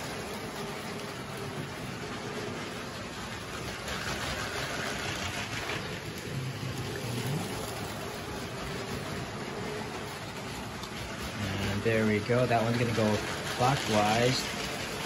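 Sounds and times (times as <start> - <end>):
toy train motors whirring and rattling: 0.0 - 15.0.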